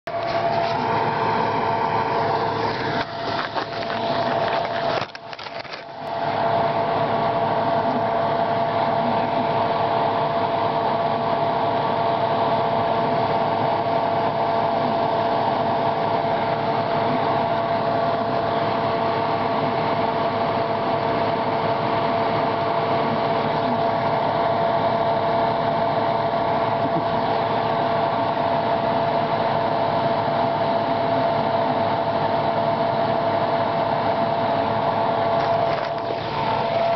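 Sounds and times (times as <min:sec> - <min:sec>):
mechanical hum with tones: 0:00.1 - 0:36.9.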